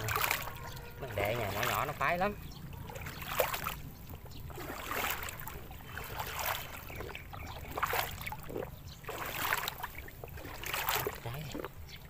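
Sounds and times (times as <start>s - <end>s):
water sloshing from wading: 0.0s - 12.0s.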